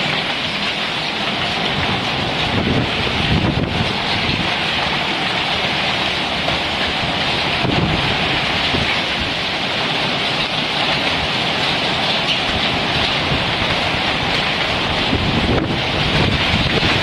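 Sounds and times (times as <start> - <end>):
hail and heavy rain: 0.0 - 17.0.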